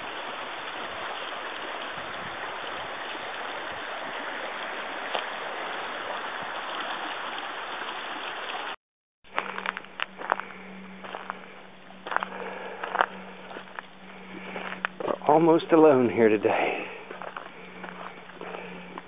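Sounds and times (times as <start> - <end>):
rocky stream rushing: 0.0 - 8.8, 12.0 - 19.0.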